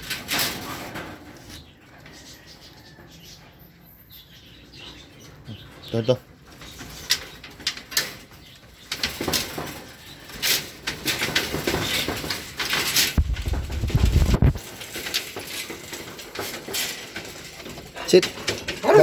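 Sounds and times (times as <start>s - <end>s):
cage birds calling: 0.6s - 14.3s, 15.4s - 19.0s.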